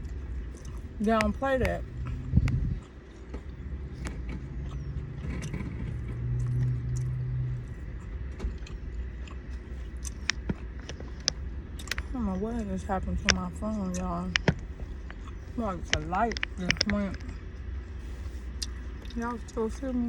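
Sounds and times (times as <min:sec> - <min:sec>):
person chewing: 0:00.0 - 0:01.0, 0:01.8 - 0:12.2, 0:13.9 - 0:19.3
hum: 0:00.0 - 0:20.0
low car rumble: 0:00.0 - 0:20.0.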